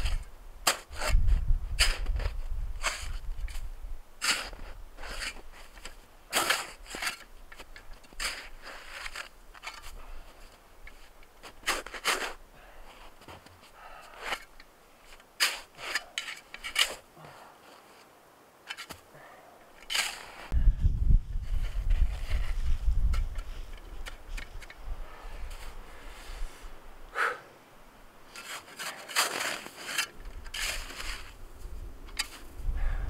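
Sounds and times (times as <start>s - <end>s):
shovel crunching and scraping snow: 0.0s - 19.0s, 19.8s - 20.6s, 21.4s - 26.7s, 28.3s - 32.5s.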